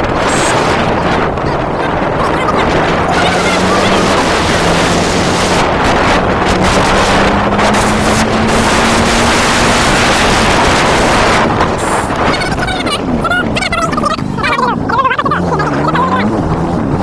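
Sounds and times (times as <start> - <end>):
motorcycle engine accelerating: 0.0 - 17.0
wind buffeting microphone: 0.0 - 17.0.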